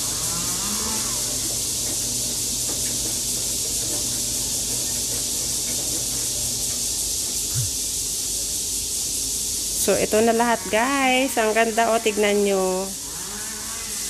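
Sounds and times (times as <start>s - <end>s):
high background hiss: 0.0s - 14.0s.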